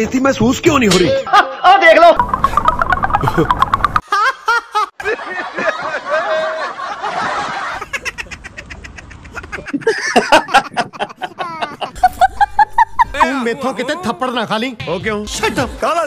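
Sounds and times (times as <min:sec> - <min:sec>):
men laughing: 0:00.9 - 0:14.4.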